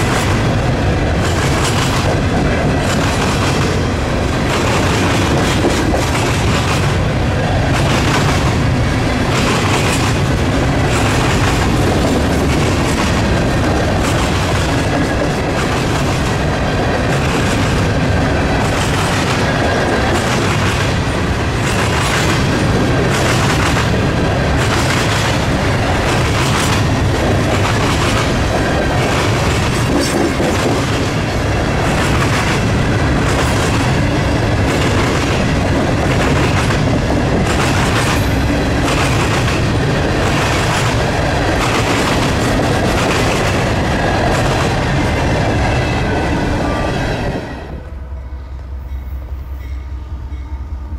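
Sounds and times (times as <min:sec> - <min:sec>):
train wheels clacking on rail joints: 0:00.0 - 0:47.4.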